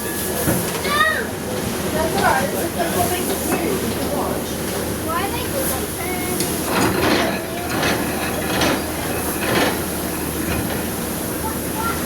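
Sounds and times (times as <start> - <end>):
steam engine hissing and chuffing: 0.0 - 12.0.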